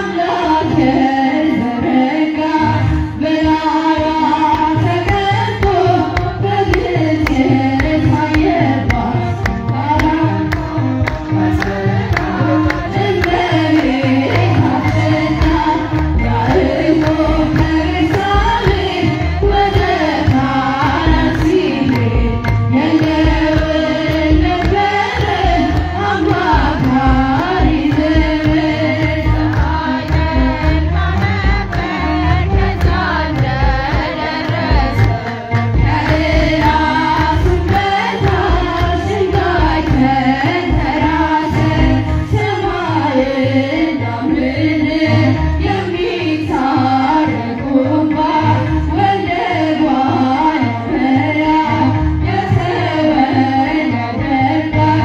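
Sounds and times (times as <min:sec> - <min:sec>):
drum beating a steady rhythm: 0:00.0 - 0:55.0
woman singing a hymn: 0:00.0 - 0:55.0.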